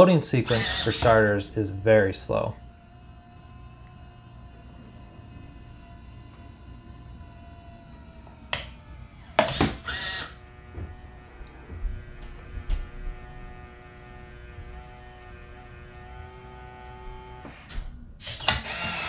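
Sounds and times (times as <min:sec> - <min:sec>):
servo whirs: 0:00.3 - 0:19.0
servo clicks: 0:00.4 - 0:13.7, 0:16.1 - 0:19.0.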